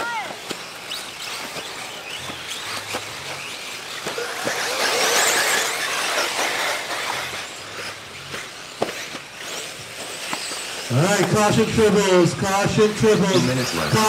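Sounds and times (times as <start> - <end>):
electric motor whine: 0.4 - 14.0.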